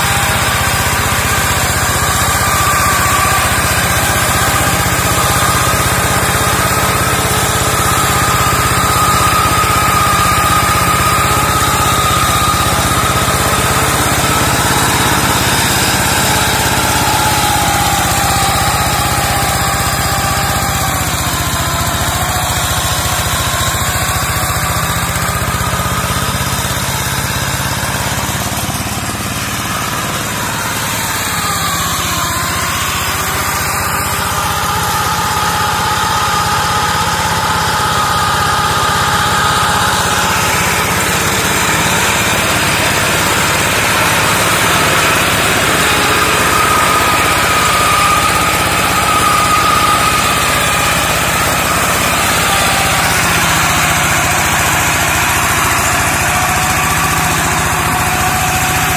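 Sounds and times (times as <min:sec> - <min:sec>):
diesel engine running under load: 0:00.0 - 0:58.9
mower cutting undergrowth: 0:00.0 - 0:58.9.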